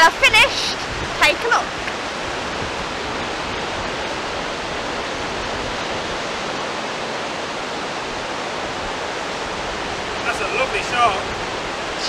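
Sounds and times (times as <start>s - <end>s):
sea surf on sandy beach: 0.0s - 12.0s.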